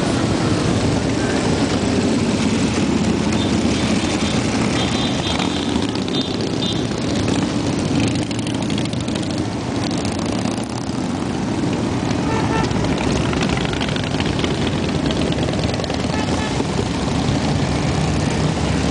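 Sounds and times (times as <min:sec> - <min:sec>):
motorcycles riding past: 0:00.0 - 0:18.9.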